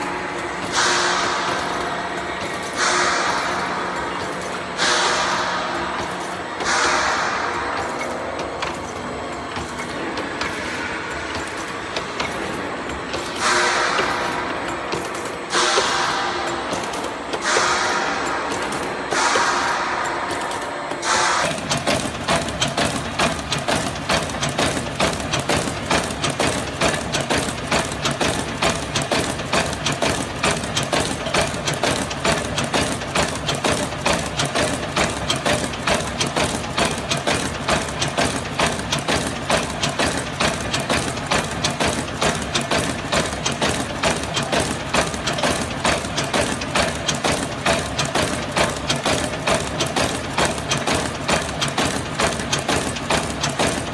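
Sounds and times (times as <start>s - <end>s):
machine hum: 0.0s - 53.9s
mechanical clatter: 0.0s - 53.9s.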